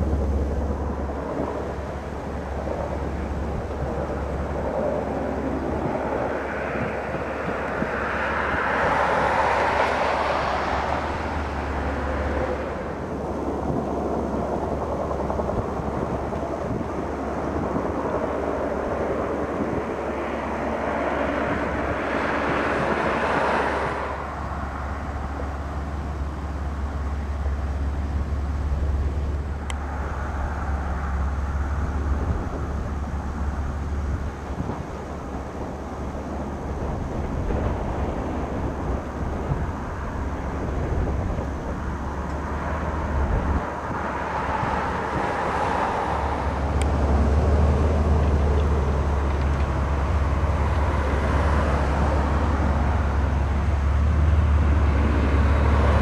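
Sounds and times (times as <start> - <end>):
aircraft flying low overhead: 0.0 - 56.0
steady low rumble: 0.0 - 56.0.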